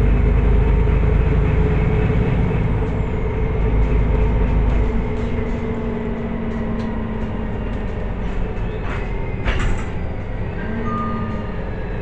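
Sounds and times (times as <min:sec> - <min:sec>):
bus drivetrain hum: 0:00.0 - 0:12.0
road noise: 0:00.0 - 0:12.0.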